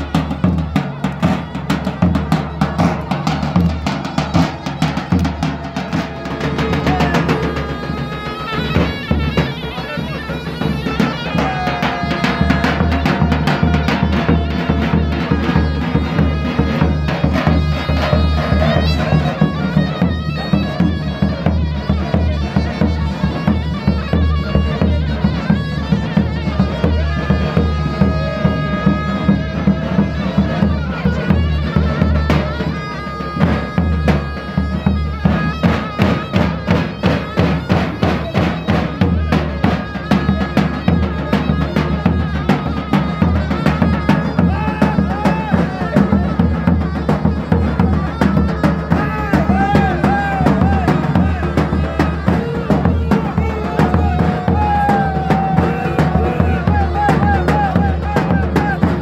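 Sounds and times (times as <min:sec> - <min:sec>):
wind instrument folk melody: 0:00.0 - 0:59.0.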